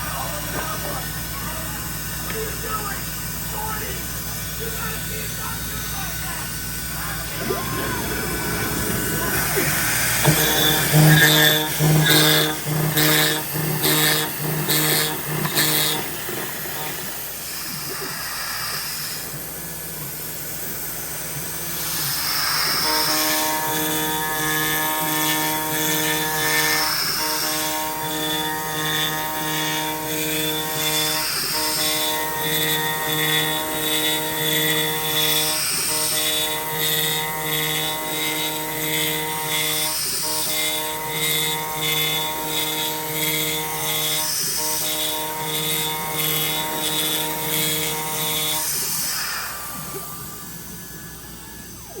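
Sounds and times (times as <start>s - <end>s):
quiet machine hum: 0.0s - 52.0s
router motor whine: 0.0s - 52.0s
rushing hiss of cutting: 7.1s - 51.4s.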